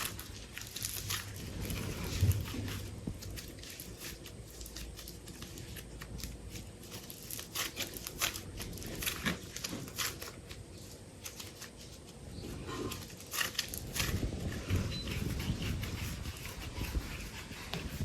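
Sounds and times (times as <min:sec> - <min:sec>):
hands handling clay and packs: 0:00.0 - 0:18.0.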